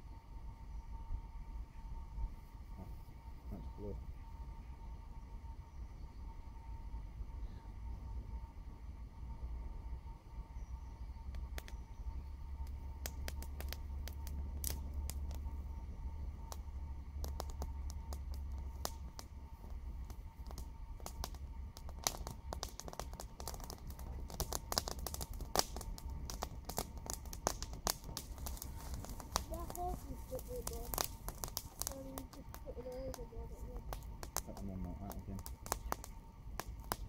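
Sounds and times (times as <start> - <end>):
dry grass crackling in fire: 0.0 - 37.0
low rumble: 0.0 - 37.0.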